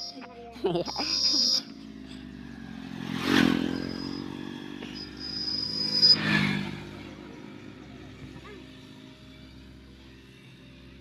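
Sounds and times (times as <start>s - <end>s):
motorcycle engine hum: 0.0s - 11.0s
motorcycle passing close: 0.0s - 11.0s
vehicle passing: 0.0s - 11.0s.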